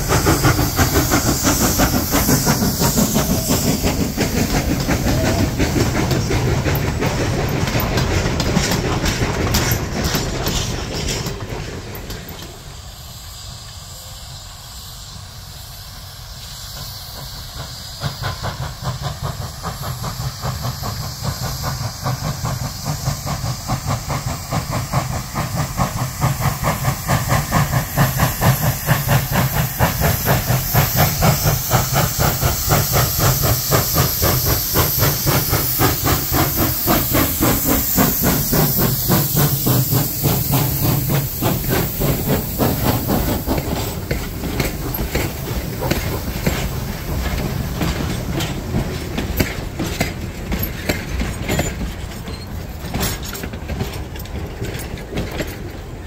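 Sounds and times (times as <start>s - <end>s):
hissing steam: 0.0s - 56.0s
railway cars rolling by: 0.0s - 56.0s
steam locomotive exhaust chuffing: 0.0s - 56.0s.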